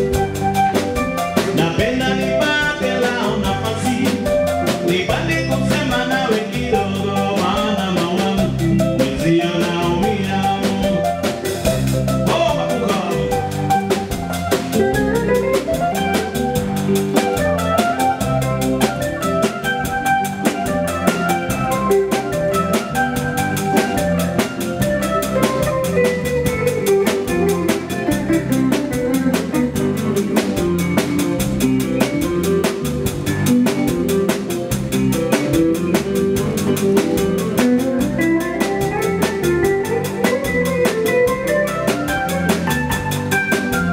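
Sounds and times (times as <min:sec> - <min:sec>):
bass: 0:00.0 - 0:43.9
drum kit fast beat: 0:00.0 - 0:43.9.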